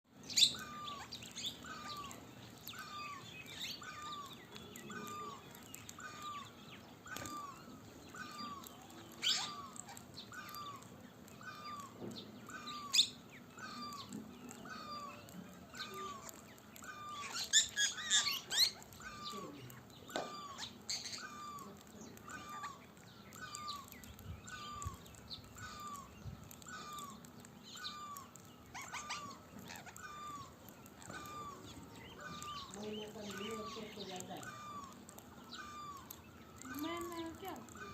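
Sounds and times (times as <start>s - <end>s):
birds chirping: 0.1s - 37.9s
shrill bird calls: 0.2s - 37.9s.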